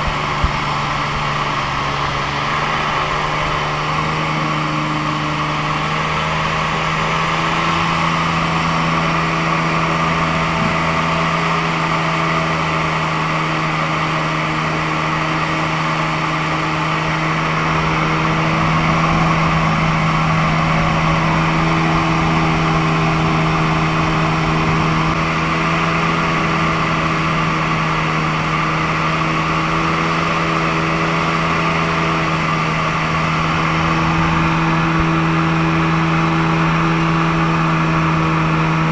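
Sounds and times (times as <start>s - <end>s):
airboat engine and propeller drone: 0.0s - 38.9s.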